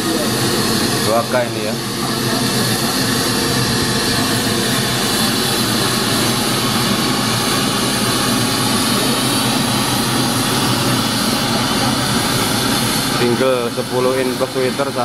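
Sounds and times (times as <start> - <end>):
loud test noise hiss: 0.0 - 15.0.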